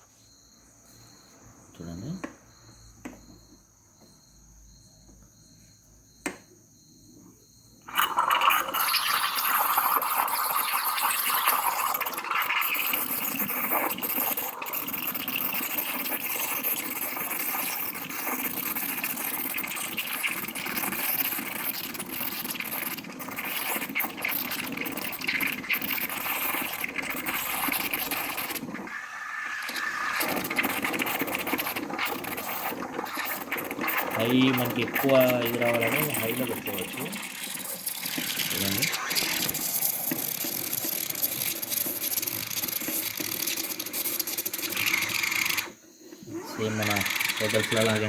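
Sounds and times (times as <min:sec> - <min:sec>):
espresso machine steam wand hissing: 0:07.9 - 0:48.0.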